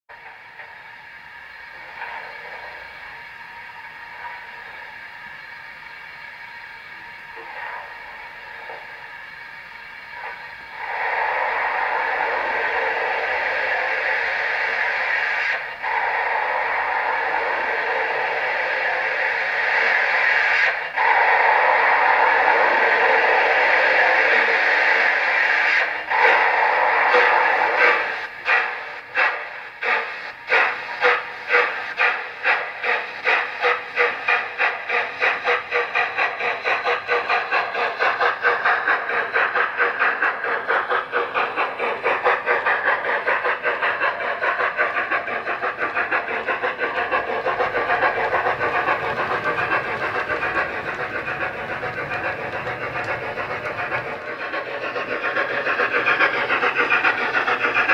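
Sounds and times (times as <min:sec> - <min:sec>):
steam hiss: 0:00.1 - 0:57.9
steam locomotive exhaust chuffs: 0:00.1 - 0:57.9.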